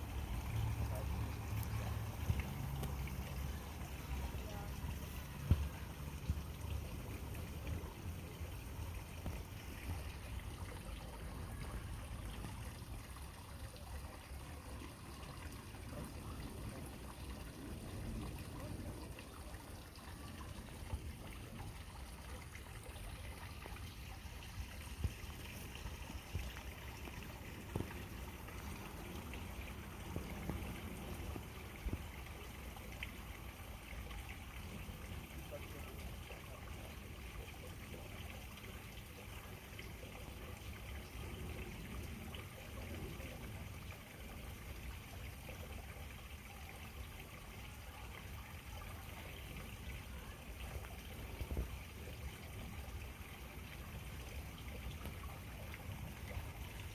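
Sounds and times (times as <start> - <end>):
water trickling: 0.0 - 56.9.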